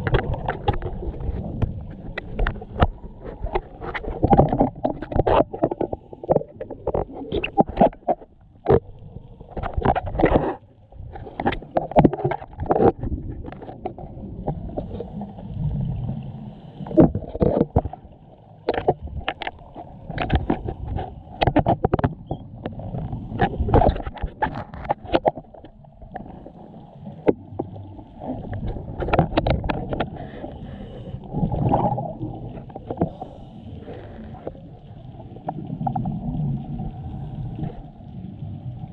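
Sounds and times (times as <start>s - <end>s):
underwater regulator bubbling: 0.0s - 16.2s, 16.8s - 38.1s.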